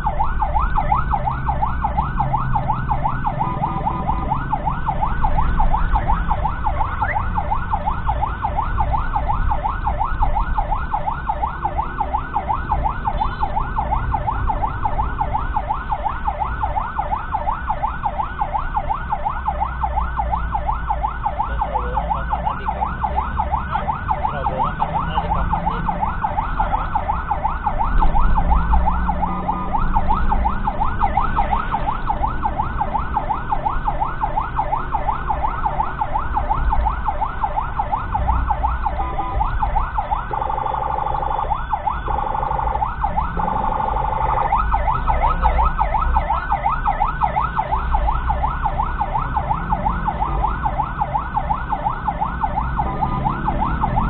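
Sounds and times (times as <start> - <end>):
ambulance siren yelp: 0.0 - 54.0
engine and traffic rumble: 0.0 - 54.0.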